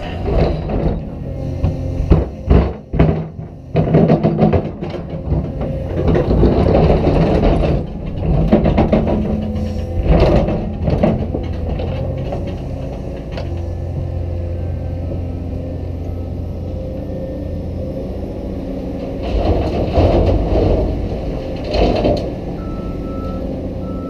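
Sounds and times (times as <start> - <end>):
excavator diesel engine and hydraulics: 0.0 - 24.0.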